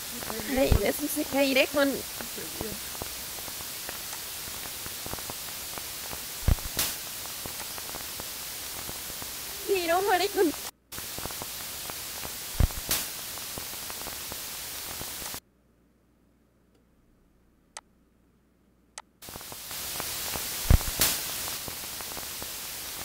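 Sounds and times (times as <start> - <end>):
recording hiss: 0.0 - 15.4, 19.1 - 23.0.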